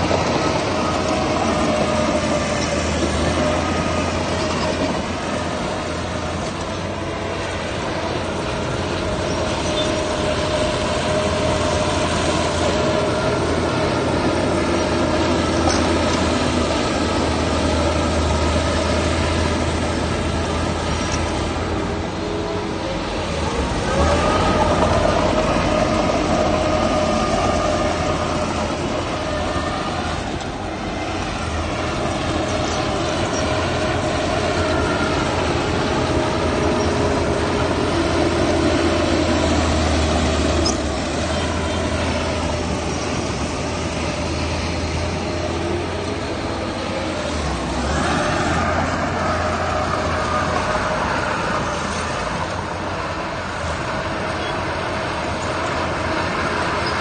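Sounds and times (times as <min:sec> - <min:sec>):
engine whine: 0:00.0 - 0:57.0
heavy diesel machine engine droning: 0:00.0 - 0:57.0.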